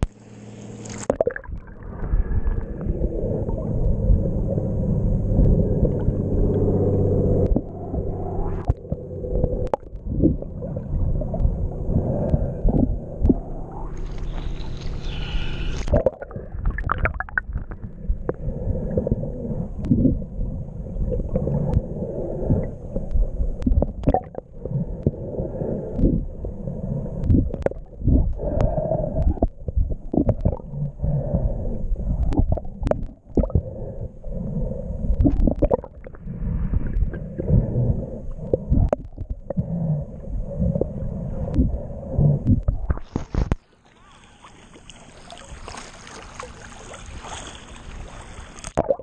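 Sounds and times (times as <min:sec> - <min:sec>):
underwater rumbling and gurgling: 0:00.0 - 0:49.0.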